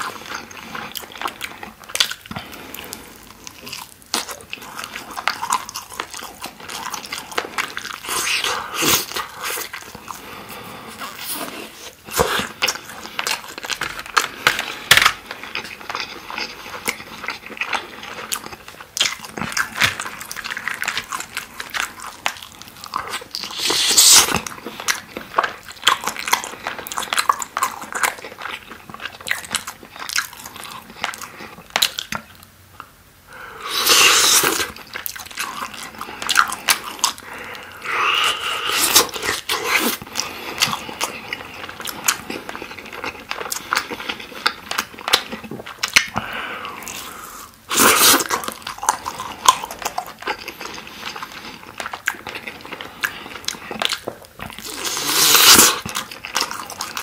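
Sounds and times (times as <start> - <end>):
wet chewing and smacking: 0.0 - 33.0, 33.7 - 57.0.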